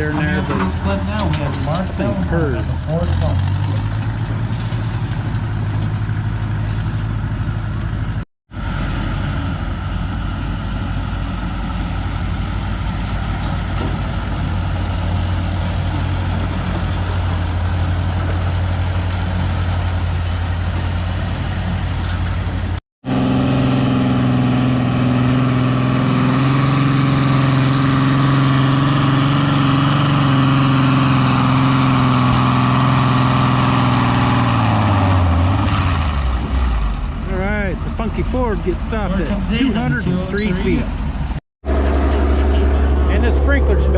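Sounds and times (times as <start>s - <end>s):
tractor engine running under load: 0.0s - 40.1s, 41.0s - 43.9s.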